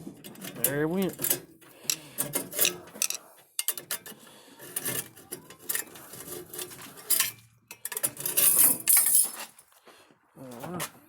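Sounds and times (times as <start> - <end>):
metal tools clinking and clanking: 0.0 - 9.6.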